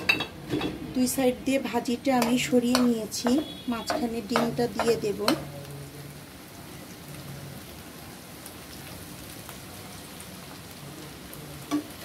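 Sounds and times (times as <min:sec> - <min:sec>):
oil sizzling in frying pan: 0:00.0 - 0:12.0.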